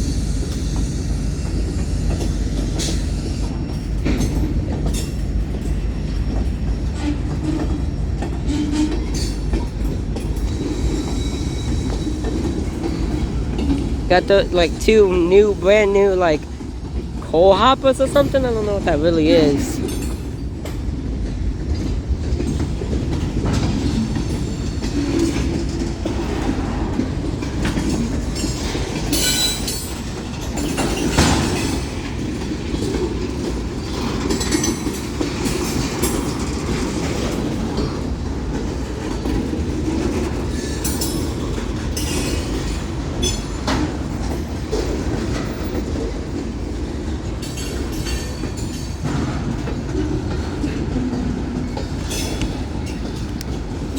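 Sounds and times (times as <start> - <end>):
freight train rumbling past: 0.0 - 53.9
wheels clacking over rail joints: 1.8 - 53.9.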